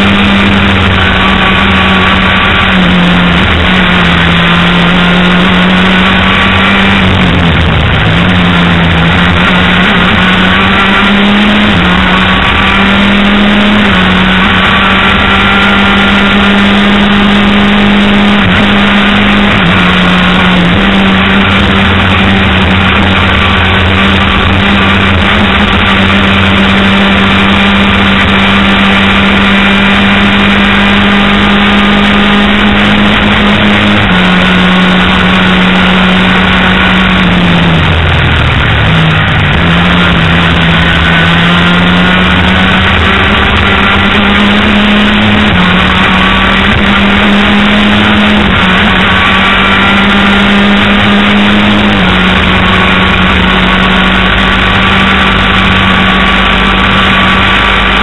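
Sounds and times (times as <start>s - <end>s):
heavy wind rush: 0.0s - 58.0s
race car engine at high revs: 0.0s - 58.0s.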